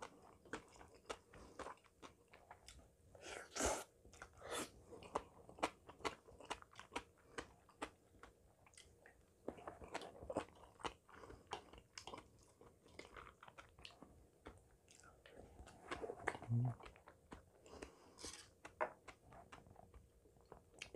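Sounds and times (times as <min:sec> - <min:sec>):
close wet chewing: 0:00.0 - 0:20.9.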